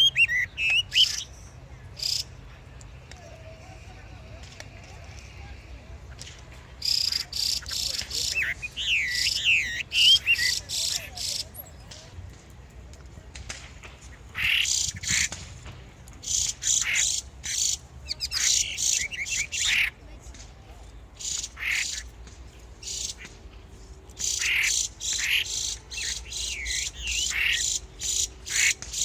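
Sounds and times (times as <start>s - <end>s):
songbirds singing and chirping: 0.0s - 29.0s.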